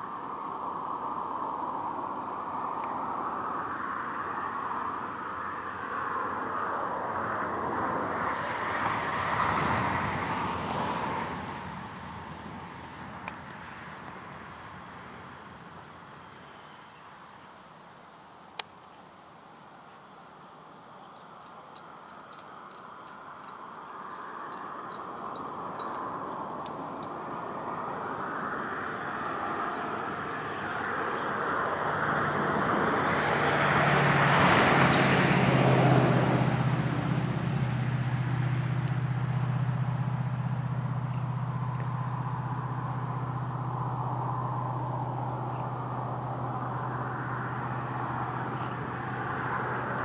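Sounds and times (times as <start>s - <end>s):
vehicle engine humming: 0.0s - 16.7s, 20.4s - 50.0s.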